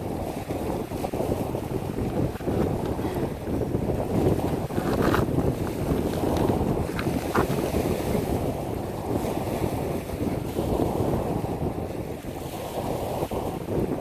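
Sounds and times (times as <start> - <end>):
waves washing onto pebbles: 0.0 - 14.0
wind buffeting microphone: 0.0 - 14.0.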